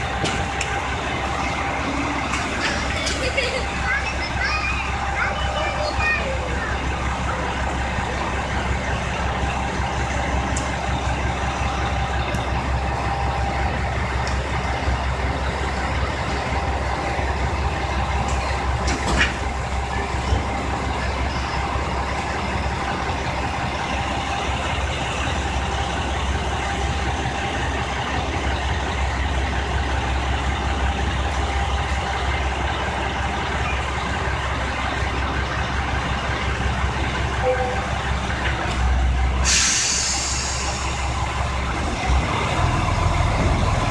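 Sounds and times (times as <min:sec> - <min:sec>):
diesel railcar engine drone: 0:00.0 - 0:43.9.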